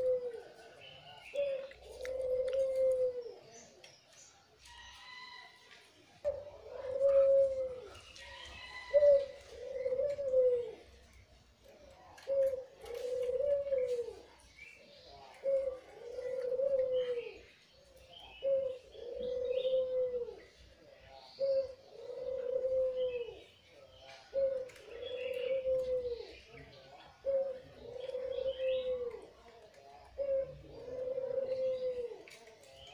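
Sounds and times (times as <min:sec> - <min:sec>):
dove cooing: 0:00.0 - 0:03.8, 0:06.1 - 0:32.9
faint small birds chirping: 0:00.0 - 0:32.9.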